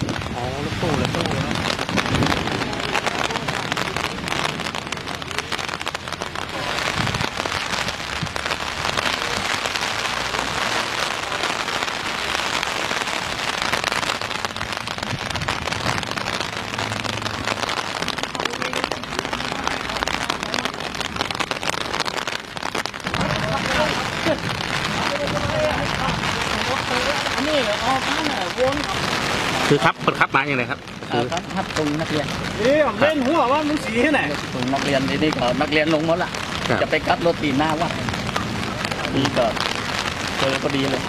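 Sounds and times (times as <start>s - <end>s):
heavy rain pattering: 0.0s - 41.0s.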